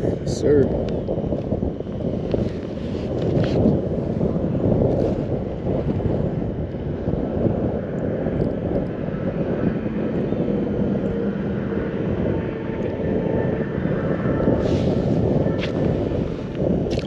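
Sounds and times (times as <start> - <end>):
faint engine drone: 0.0 - 17.0
wind rumble on microphone: 0.0 - 17.0.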